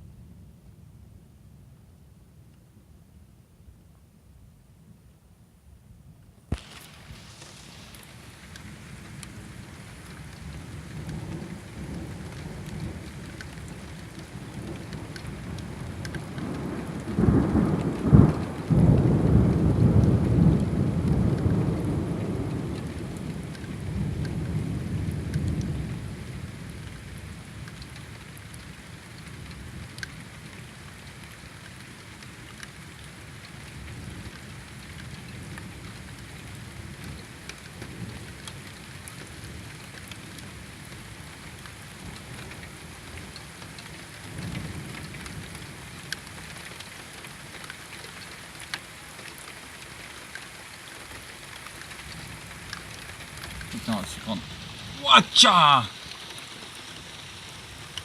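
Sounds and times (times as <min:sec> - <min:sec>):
steady rain falling: 0:06.2 - 0:58.0.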